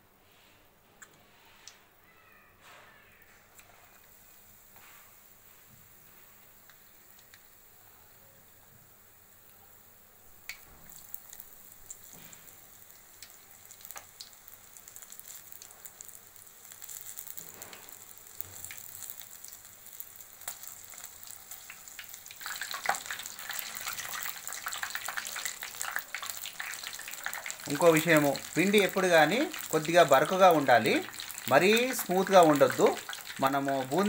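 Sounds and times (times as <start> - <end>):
food sizzling in hot oil: 4.2 - 34.0.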